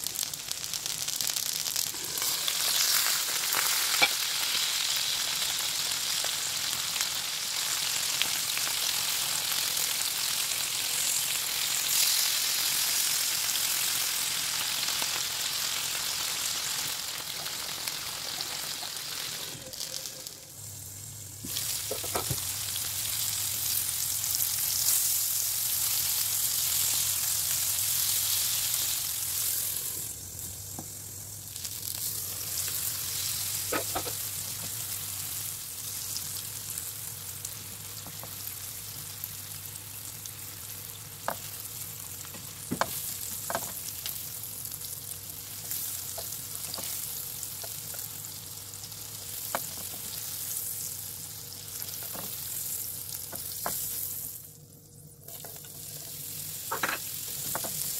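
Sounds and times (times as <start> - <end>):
food sizzling in oil: 0.0 - 57.9.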